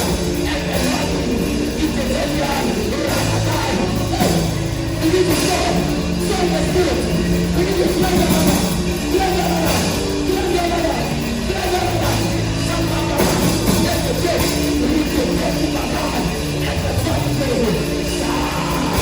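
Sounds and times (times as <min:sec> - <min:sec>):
band playing sustained chords: 0:00.0 - 0:19.0
voices singing: 0:00.0 - 0:19.0.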